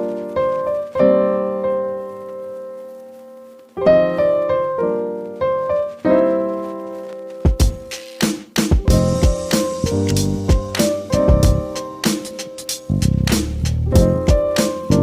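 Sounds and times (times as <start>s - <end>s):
slow piano chords: 0.0s - 8.0s, 8.7s - 15.0s.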